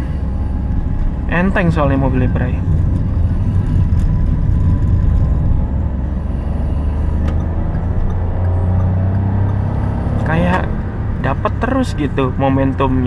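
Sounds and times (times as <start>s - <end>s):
car engine hum: 0.0s - 13.0s
road rumble: 0.0s - 13.0s.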